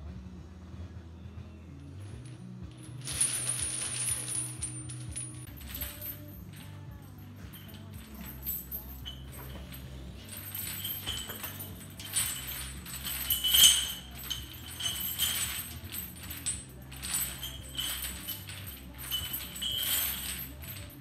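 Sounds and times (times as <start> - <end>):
heavy steel chain jangling: 2.0 - 21.0.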